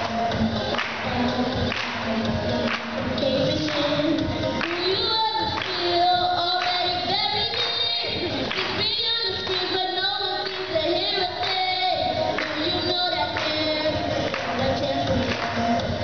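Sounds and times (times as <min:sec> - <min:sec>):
children singing into a microphone: 0:00.0 - 0:15.7
recorded backing music: 0:00.0 - 0:16.0.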